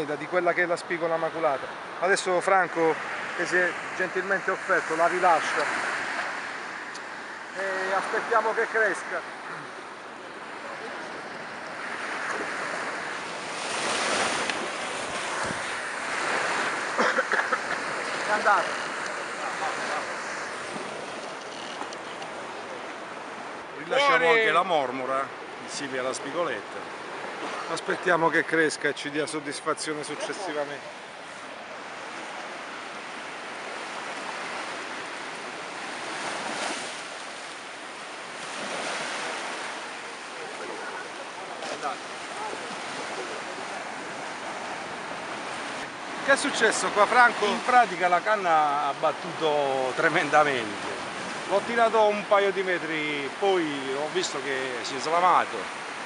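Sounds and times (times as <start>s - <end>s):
sea surf washing up beach: 0.0s - 56.0s.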